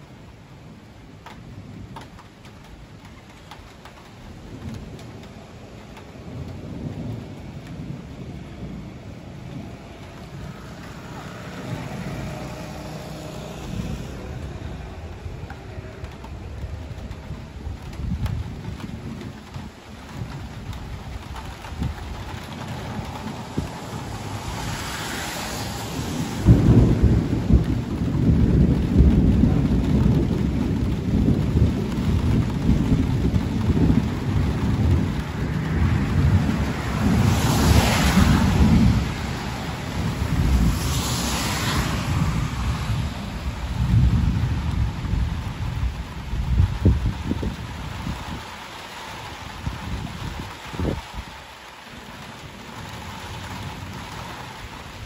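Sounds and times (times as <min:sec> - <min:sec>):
thunder rumbling: 0:00.0 - 0:55.0
sharp thunder claps: 0:01.3 - 0:48.5.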